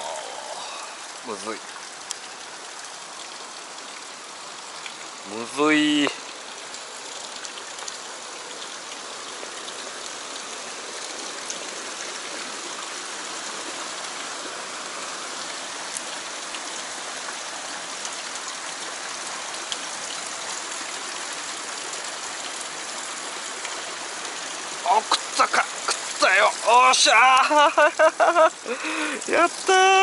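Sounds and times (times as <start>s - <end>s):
stream rushing through rocks: 0.0s - 30.0s.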